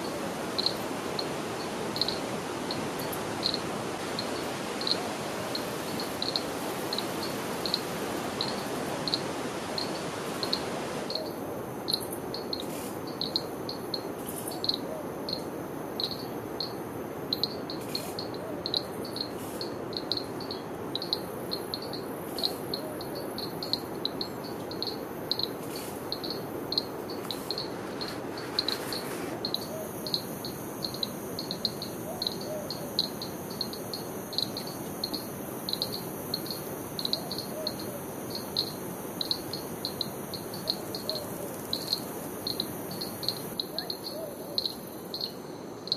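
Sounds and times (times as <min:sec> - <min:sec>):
insect chirping: 0:00.0 - 0:45.9.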